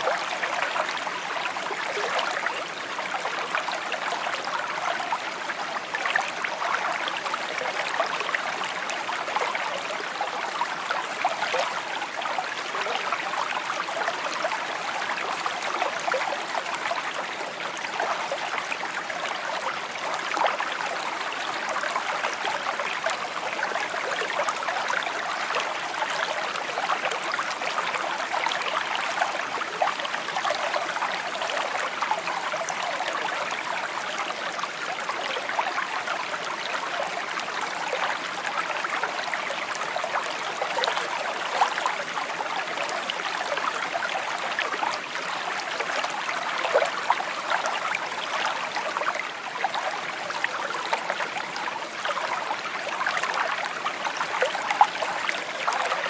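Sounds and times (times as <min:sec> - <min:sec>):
creek water babbling over stones: 0:00.0 - 0:56.0.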